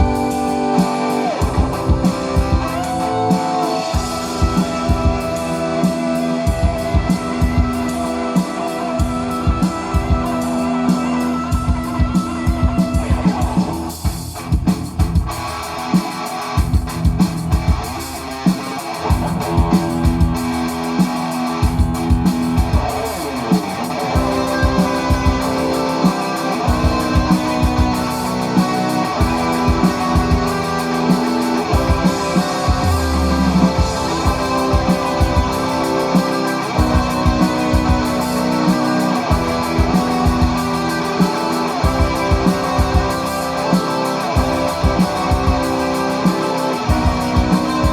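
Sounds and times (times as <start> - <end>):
bass guitar: 0.0 - 8.3, 16.6 - 18.2, 19.1 - 47.9
electric guitar: 0.0 - 47.9
steady drum beat: 0.0 - 47.9.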